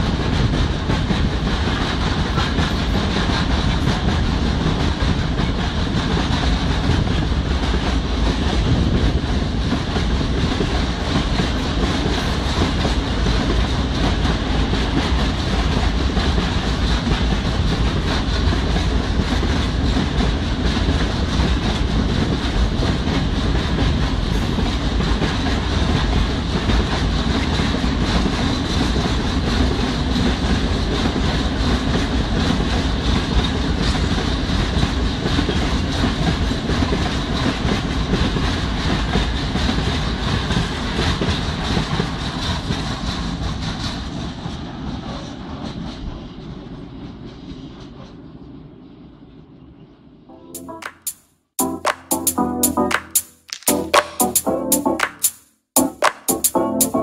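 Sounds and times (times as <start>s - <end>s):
train wheels rumbling on rails: 0.0s - 48.2s.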